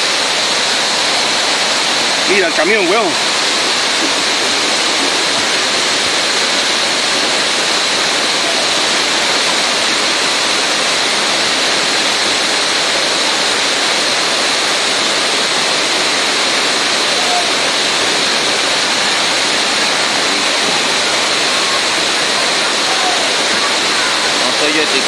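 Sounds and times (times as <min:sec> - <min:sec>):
floodwater rushing: 0:00.0 - 0:25.0
torrential rain: 0:00.0 - 0:25.0.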